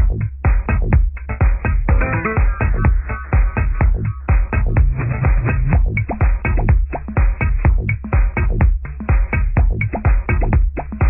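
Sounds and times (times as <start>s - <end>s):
electronic dance music: 0.5s - 10.6s.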